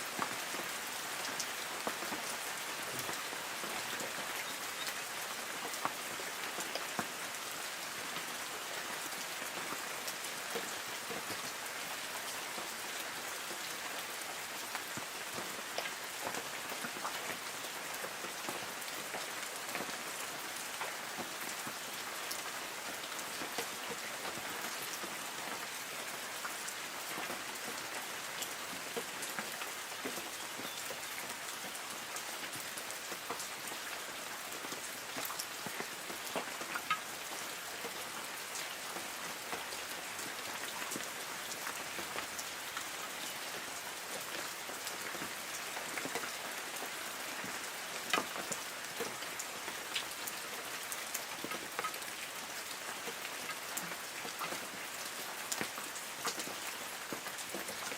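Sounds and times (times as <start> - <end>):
rain pattering on leaves: 0.0 - 57.9.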